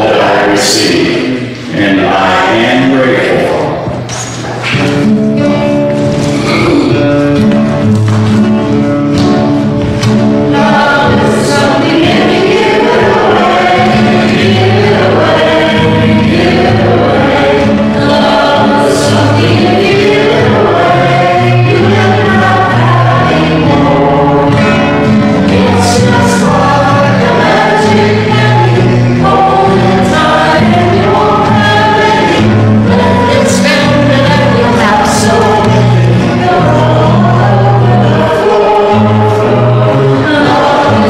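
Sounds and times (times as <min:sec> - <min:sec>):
gospel choir singing: 0:00.0 - 0:05.3, 0:09.2 - 0:41.0
held bass notes: 0:00.0 - 0:41.0.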